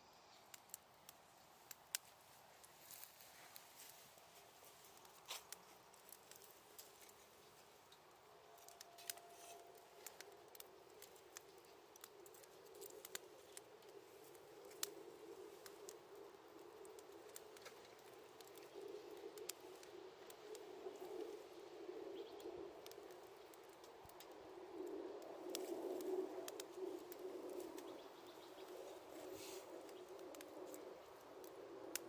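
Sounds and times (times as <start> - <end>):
wood fire crackling: 0.2 - 32.0
sharp pops and snaps: 0.4 - 4.3, 4.9 - 21.4, 22.2 - 29.1, 29.7 - 32.0.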